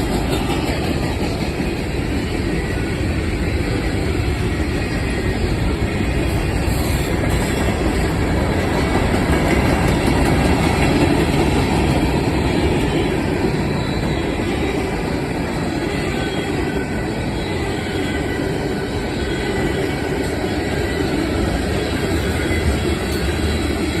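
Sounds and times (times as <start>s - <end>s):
freight train rolling past: 0.0s - 24.0s
wheels running on rails: 0.0s - 24.0s.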